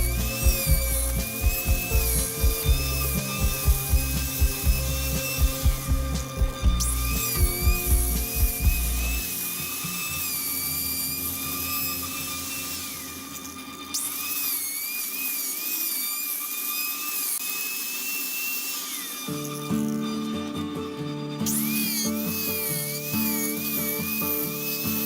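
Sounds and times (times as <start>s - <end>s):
power tool whining cutting wood: 0.0s - 25.0s.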